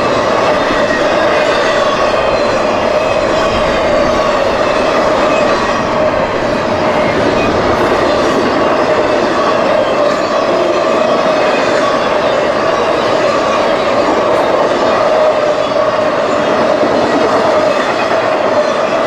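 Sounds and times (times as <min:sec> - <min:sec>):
railroad cars rolling on rails: 0:00.0 - 0:19.0.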